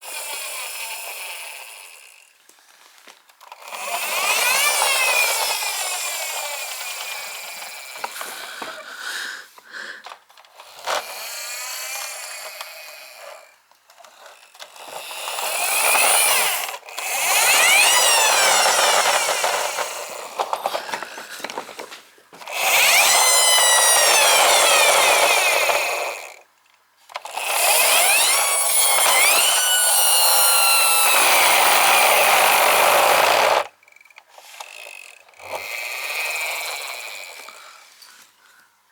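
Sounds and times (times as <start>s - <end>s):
toy friction motor whirring: 0.0s - 2.4s, 3.4s - 9.2s, 10.0s - 26.5s, 27.1s - 38.3s.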